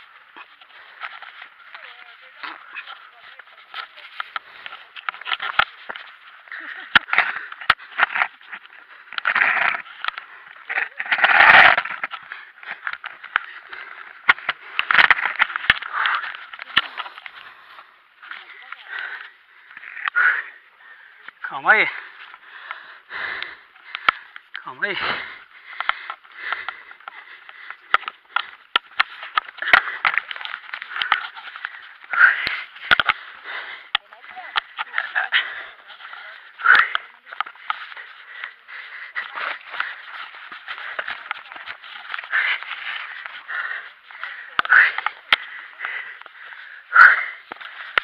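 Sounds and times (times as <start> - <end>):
scraping on rock: 0.0 - 20.5, 21.8 - 48.0
clothing and gloves rustling: 0.0 - 21.4, 25.2 - 48.0.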